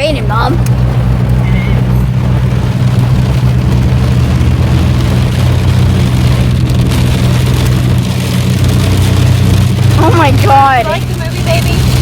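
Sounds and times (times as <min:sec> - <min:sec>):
car engine drone inside cabin: 0:00.0 - 0:12.0
heavy rain on a car: 0:00.0 - 0:12.0.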